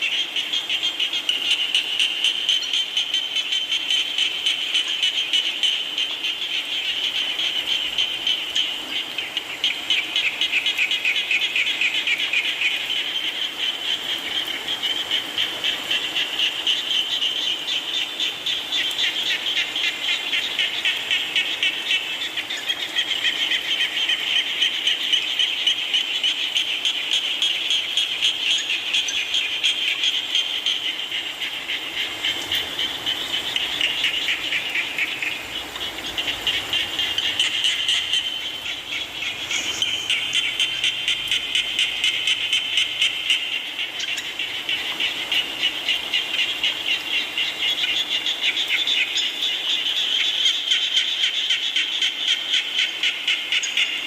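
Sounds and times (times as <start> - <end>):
chorus of frogs trilling: 0.0 - 54.0
falling rain hiss: 0.0 - 54.0.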